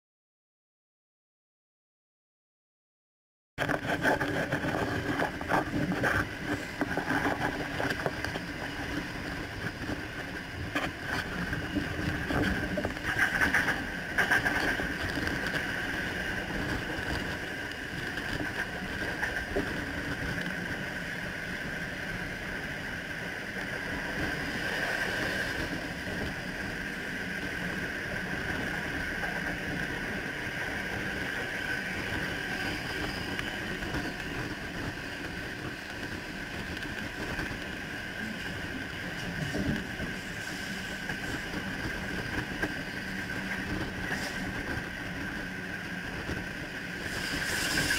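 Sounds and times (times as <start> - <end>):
train rattles: 3.6 - 47.9
train wheels rolling on rail: 3.6 - 47.9
train whine: 3.6 - 47.9.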